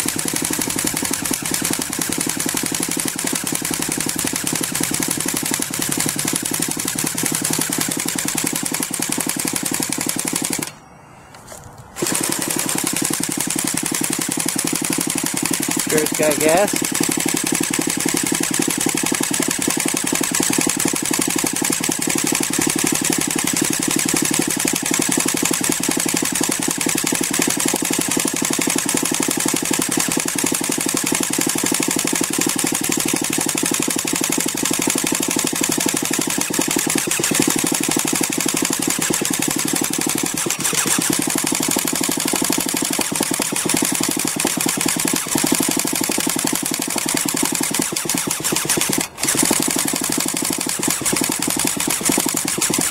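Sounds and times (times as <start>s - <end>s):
small gas engine running: 0.0s - 10.8s, 11.5s - 52.9s.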